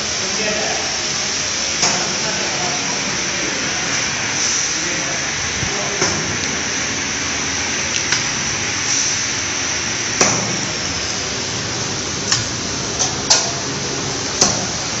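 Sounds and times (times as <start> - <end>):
factory hiss: 0.0 - 15.0.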